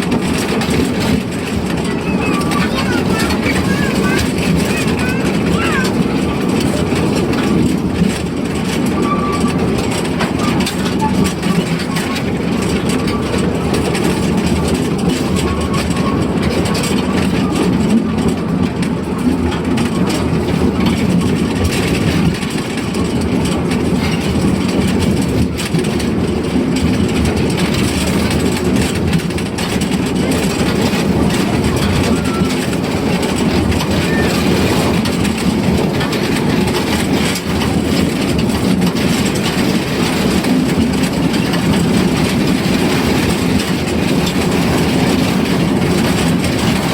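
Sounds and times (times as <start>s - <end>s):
train rumbling along track: 0.0s - 46.9s.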